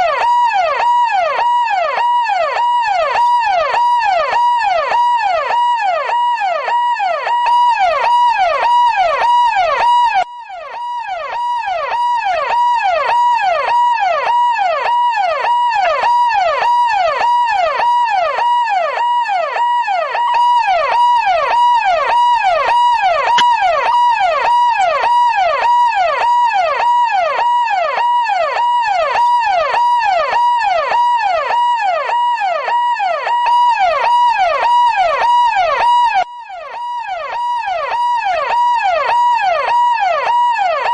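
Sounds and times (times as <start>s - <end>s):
police siren yelping: 0.0s - 40.9s.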